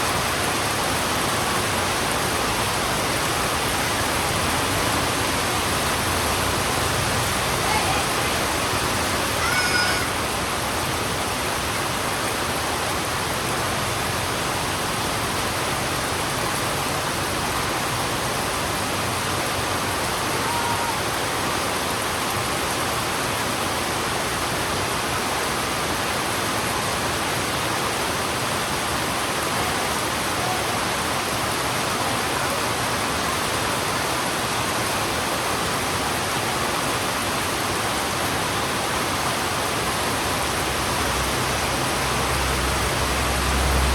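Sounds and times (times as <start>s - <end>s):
heavy rain on a road: 0.0s - 43.9s.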